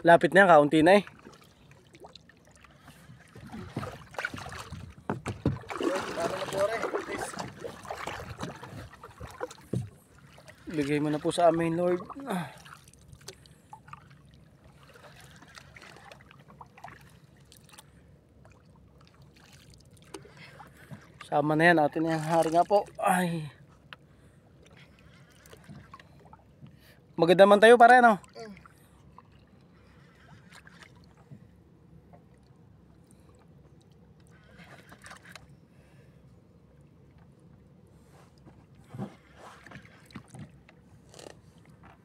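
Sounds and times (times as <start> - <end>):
low steady hum: 0.0 - 42.0
water lapping against boat hull: 0.0 - 42.0.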